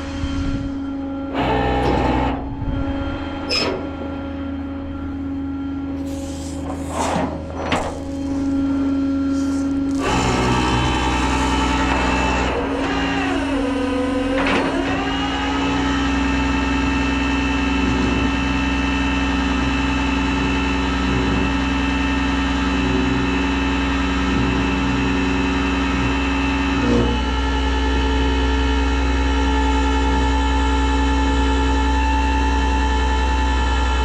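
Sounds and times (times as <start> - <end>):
truck engine running: 0.9 - 30.4.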